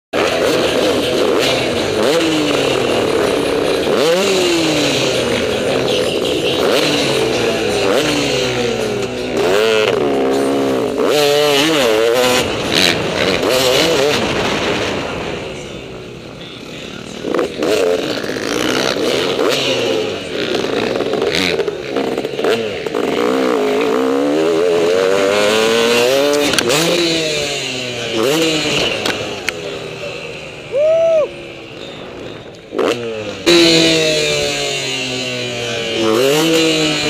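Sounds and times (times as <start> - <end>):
motocross bike engine revving: 0.2 - 37.0.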